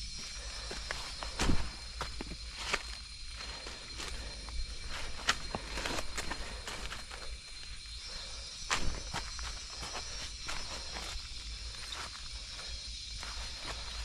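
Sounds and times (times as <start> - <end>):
footsteps on dry leaves and twigs: 0.0 - 14.0.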